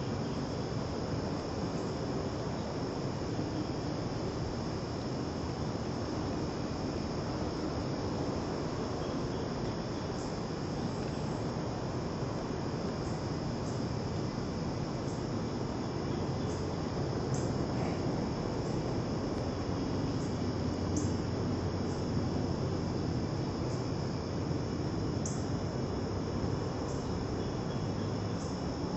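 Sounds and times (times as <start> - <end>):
constant low hiss: 0.0 - 28.9
insects chirring: 0.0 - 28.9.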